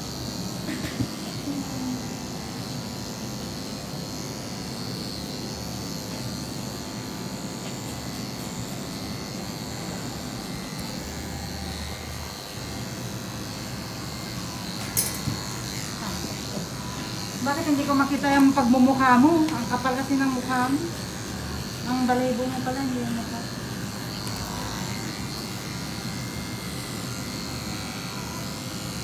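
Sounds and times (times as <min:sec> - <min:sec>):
electric clippers humming: 0:00.0 - 0:29.0.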